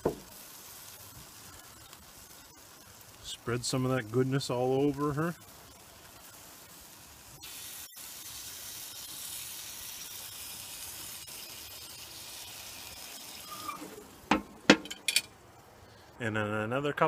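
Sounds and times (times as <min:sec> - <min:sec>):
steak sizzling on a grill: 0:00.0 - 0:16.0.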